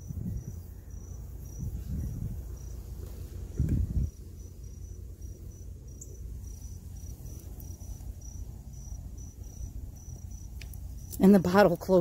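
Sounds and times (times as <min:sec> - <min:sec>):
cricket chirping: 0:00.0 - 0:12.0
low outdoor rumble: 0:00.0 - 0:12.0.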